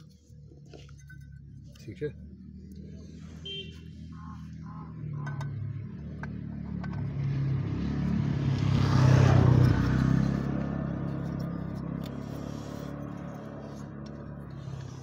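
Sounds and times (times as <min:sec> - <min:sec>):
passing vehicle engine hum: 0:00.0 - 0:15.0.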